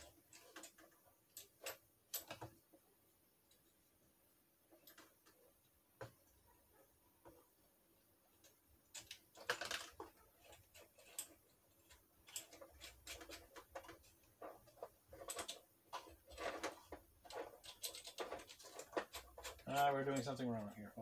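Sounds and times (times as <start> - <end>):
plastic parts clicking and rattling: 0.0 - 2.8, 4.7 - 6.4, 8.3 - 20.7.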